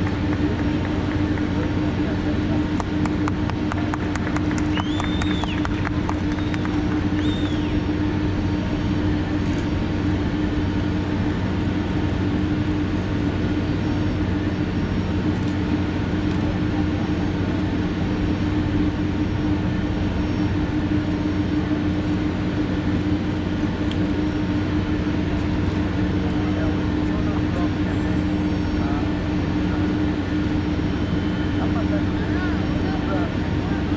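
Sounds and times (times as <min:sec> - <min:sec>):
mechanical drone with hum: 0:00.0 - 0:33.9.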